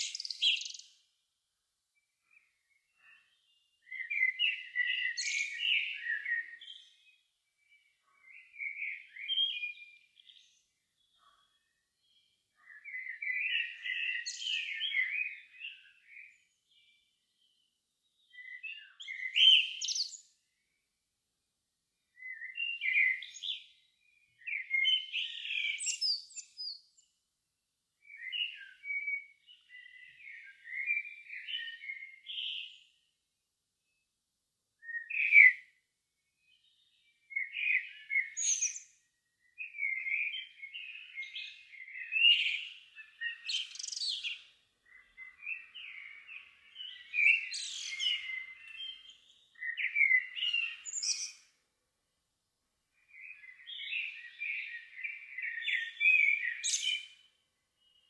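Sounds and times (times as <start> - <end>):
songbirds singing: 0.0 - 21.1, 21.7 - 58.0.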